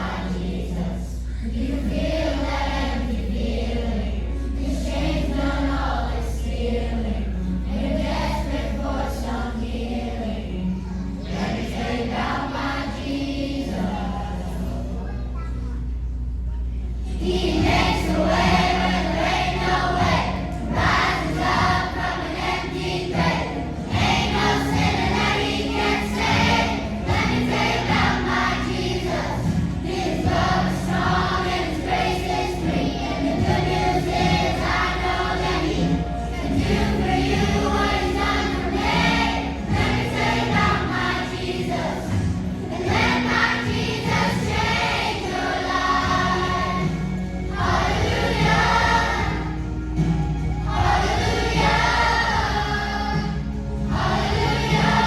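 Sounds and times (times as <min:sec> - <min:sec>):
choir of young voices singing: 0:00.0 - 0:15.0, 0:17.0 - 0:55.0
musical accompaniment: 0:00.0 - 0:55.0.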